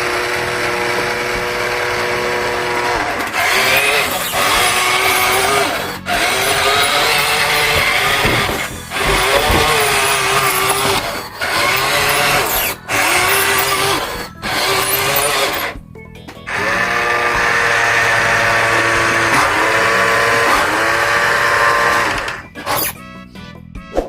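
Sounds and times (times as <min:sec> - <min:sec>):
small electric motors whining: 0:00.0 - 0:15.8, 0:16.5 - 0:23.0.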